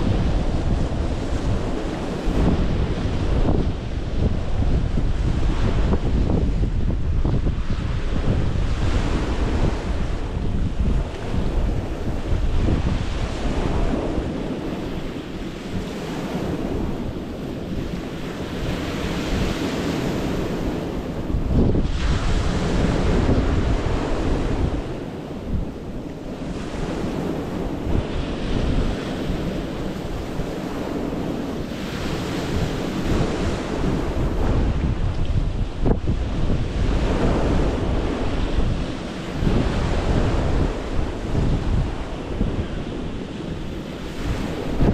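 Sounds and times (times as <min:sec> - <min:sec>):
waves washing over stony beach: 0:00.0 - 0:44.9
wind buffeting microphone: 0:00.0 - 0:44.9.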